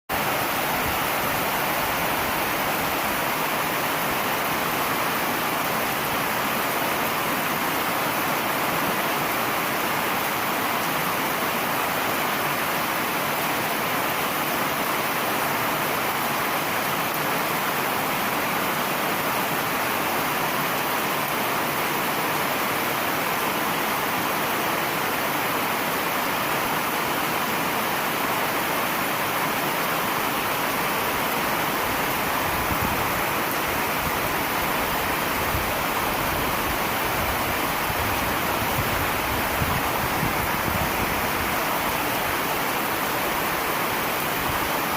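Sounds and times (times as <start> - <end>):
heavy rain pouring: 0.1 - 44.9.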